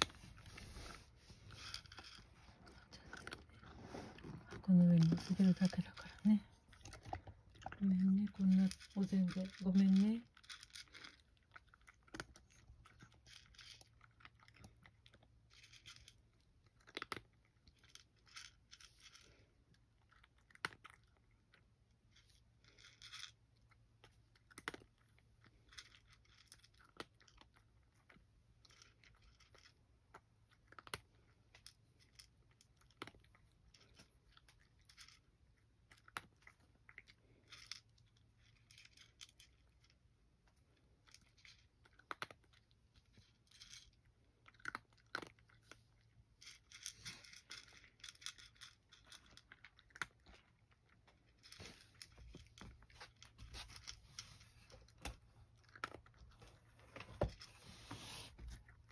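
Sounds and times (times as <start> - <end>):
cat chewing dry kibble: 0.0 - 58.9.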